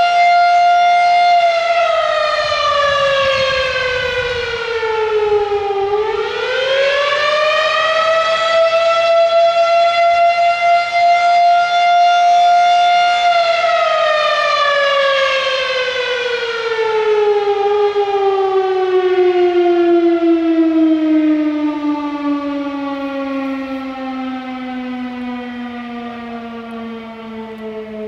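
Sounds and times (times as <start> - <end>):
fire siren winding down: 0.0 - 28.0.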